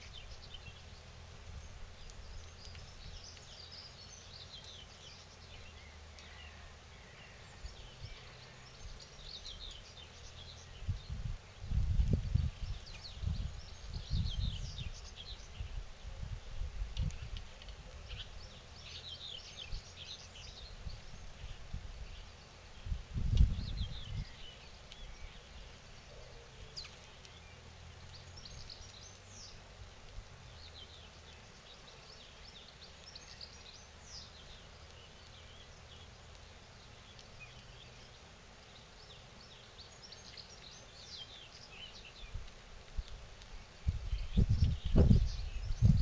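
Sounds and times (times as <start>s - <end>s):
sparrows chirping: 0.0s - 46.0s.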